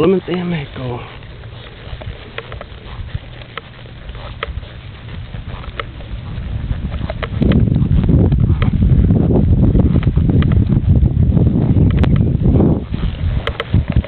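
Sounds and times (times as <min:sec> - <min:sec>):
wind buffeting microphone: 0:00.0 - 0:14.0
low rumble: 0:00.6 - 0:14.0.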